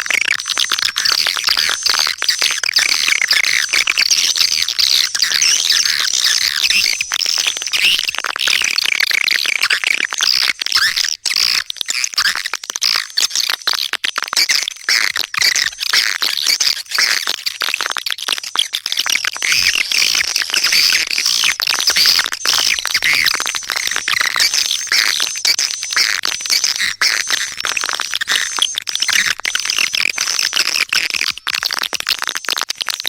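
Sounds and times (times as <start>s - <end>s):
swiftlets twittering and clicking: 0.0s - 33.0s.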